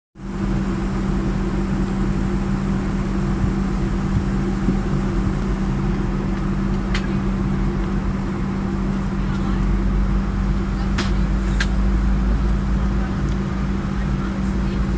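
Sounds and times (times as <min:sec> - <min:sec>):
airliner cabin drone: 0:00.2 - 0:14.9.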